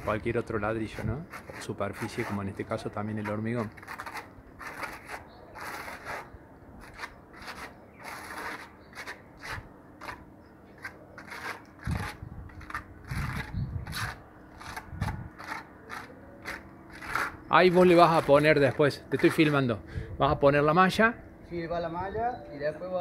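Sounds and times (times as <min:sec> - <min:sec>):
trowel scraping wet cement: 0:00.0 - 0:19.8.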